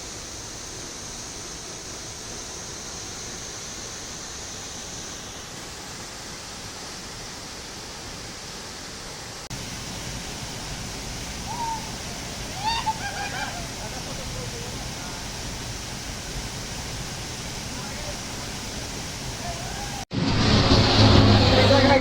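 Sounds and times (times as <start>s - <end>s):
waterfall rushing: 3.5s - 22.0s.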